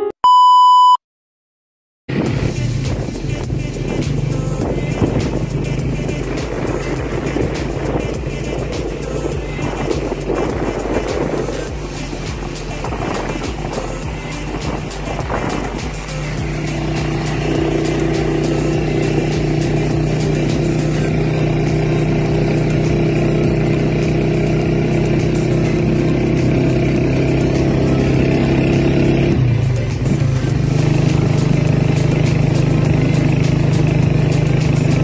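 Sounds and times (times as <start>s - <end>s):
vehicle engine running: 2.1s - 35.0s.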